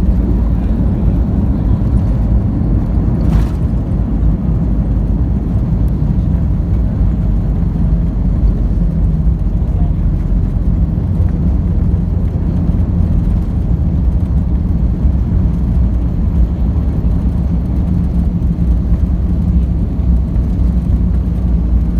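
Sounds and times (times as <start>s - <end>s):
airliner cabin low rumble: 0.0s - 21.9s.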